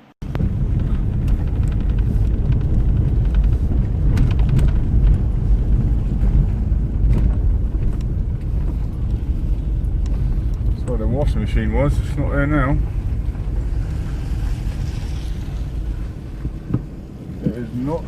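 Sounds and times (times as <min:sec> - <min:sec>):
vehicle driving rumble: 0:00.0 - 0:18.0.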